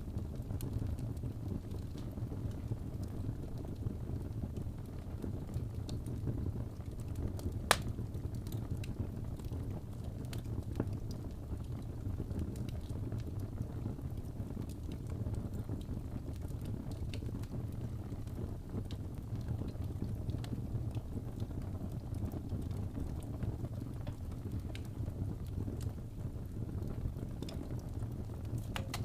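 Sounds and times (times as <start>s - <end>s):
fire crackles and pops: 0.0s - 29.0s
wood fire burning: 0.0s - 29.0s.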